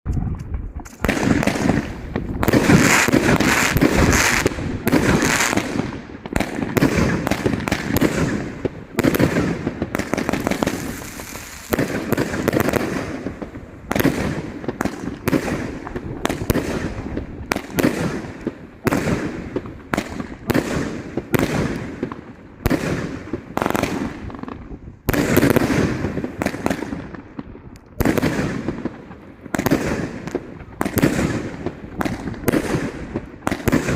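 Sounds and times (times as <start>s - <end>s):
fireworks bursts and crackling: 0.1s - 33.9s.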